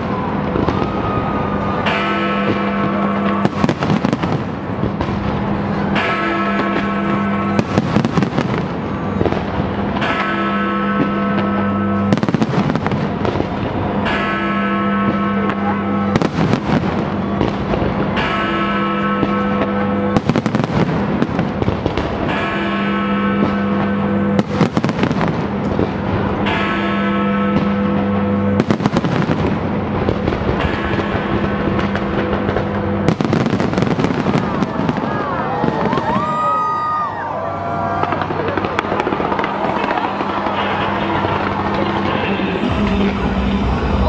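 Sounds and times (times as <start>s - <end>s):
fireworks bangs and crackles: 0.0s - 44.0s
music of long held tones: 0.0s - 44.0s.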